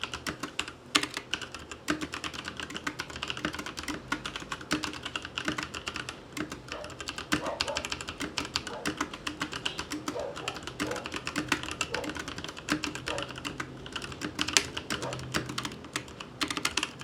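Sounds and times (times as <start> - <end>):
fast typing on mechanical keyboard: 0.0 - 17.0.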